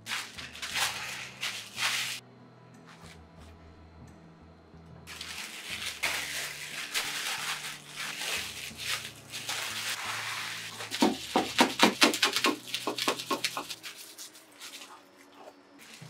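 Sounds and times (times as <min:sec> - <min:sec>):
plastic wrap crinkling: 0:00.0 - 0:02.2, 0:05.1 - 0:16.0.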